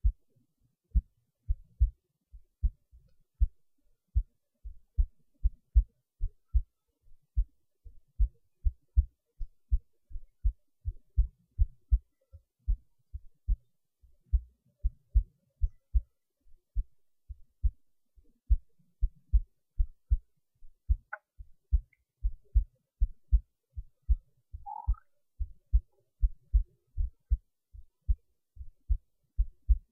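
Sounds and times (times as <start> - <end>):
heartbeat thumps: 0.9 - 2.8, 3.4 - 6.7, 7.3 - 12.1, 12.7 - 13.6, 14.2 - 14.5, 15.1 - 16.1, 16.8 - 17.8, 18.4 - 20.3, 20.9 - 29.9.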